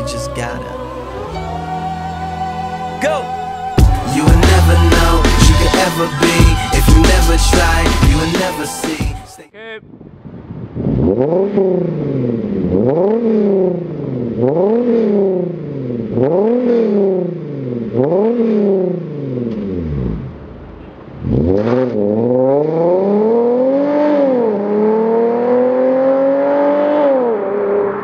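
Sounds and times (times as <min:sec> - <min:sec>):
car engine revving: 0:00.0 - 0:09.0, 0:10.2 - 0:28.0
car accelerating hard: 0:03.8 - 0:08.7, 0:10.2 - 0:28.0.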